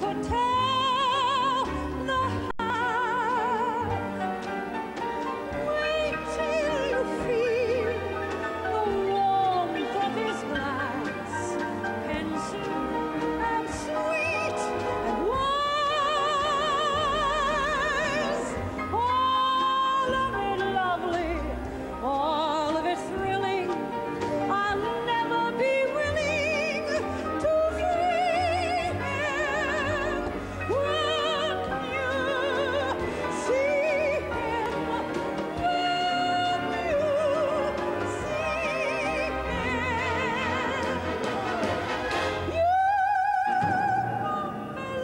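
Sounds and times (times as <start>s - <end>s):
woman singing with vibrato: 0.0s - 4.2s, 5.5s - 45.0s
orchestra accompaniment: 0.0s - 45.0s.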